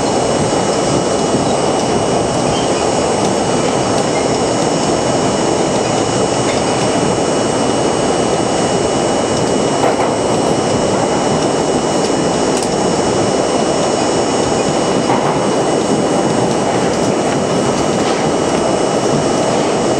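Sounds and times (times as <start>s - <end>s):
subway wheels roaring on rail: 0.0s - 19.9s.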